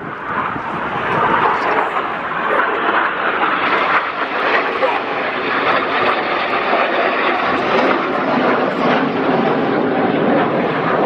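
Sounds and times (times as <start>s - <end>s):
jet noise: 0.0s - 11.0s.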